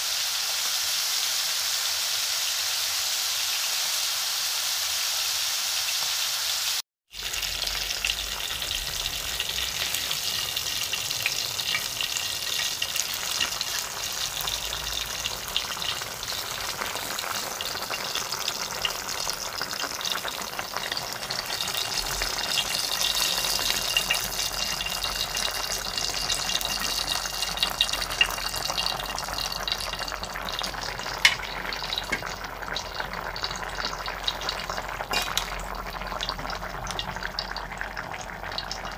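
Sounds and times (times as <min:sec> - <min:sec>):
sauce bubbling and sizzling in pan: 0:00.0 - 0:38.9.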